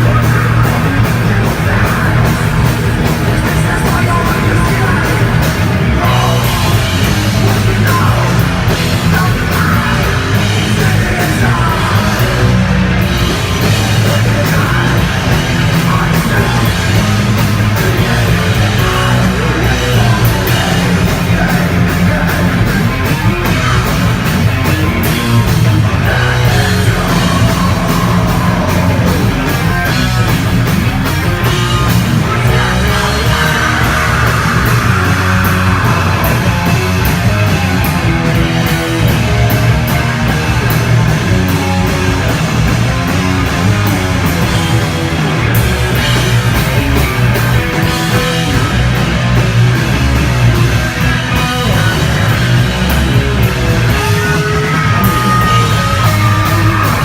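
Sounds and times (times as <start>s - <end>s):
live hardcore band playing: 0.0s - 57.0s
pounding drums: 0.0s - 57.0s.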